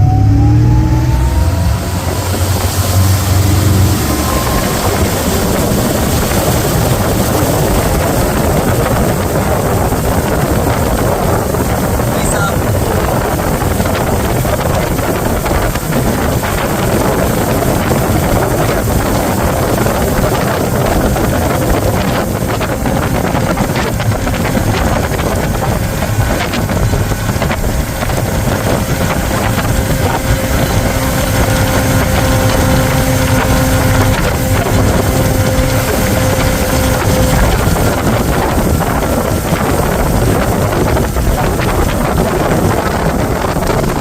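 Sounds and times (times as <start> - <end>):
heavy wind buffeting microphone: 0.0 - 44.0
motorboat running: 0.0 - 44.0.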